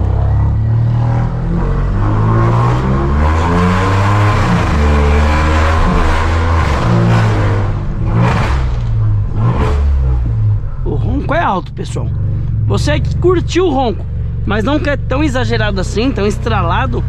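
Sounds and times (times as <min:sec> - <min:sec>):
loud car engine accelerating: 0:00.0 - 0:17.0.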